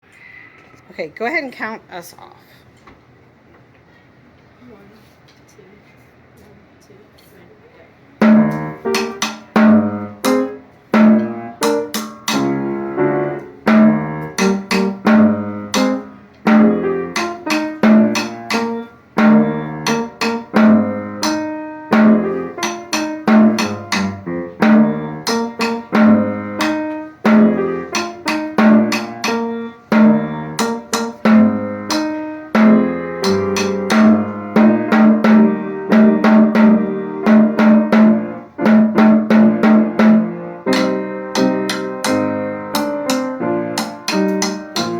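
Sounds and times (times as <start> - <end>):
percussion music: 8.2 - 44.9.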